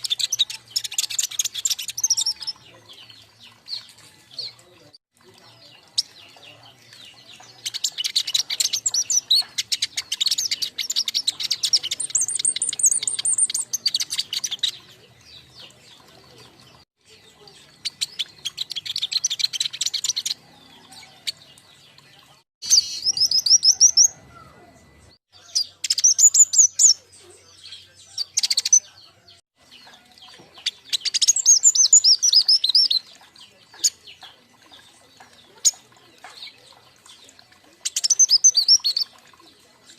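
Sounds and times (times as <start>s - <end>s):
young songbirds twittering: 0.0s - 39.9s.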